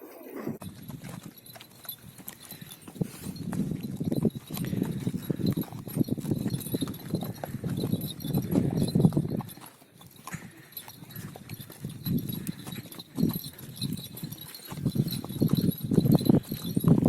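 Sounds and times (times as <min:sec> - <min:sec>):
horse hooves clopping: 0:00.6 - 0:17.0.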